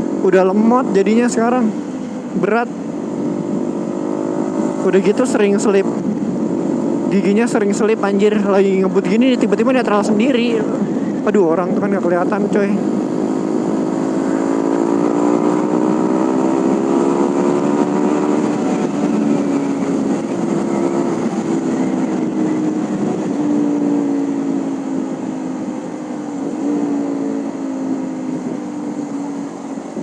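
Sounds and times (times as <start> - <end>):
motorcycle engine running hard: 0.0 - 30.0
wind and road noise: 0.0 - 30.0.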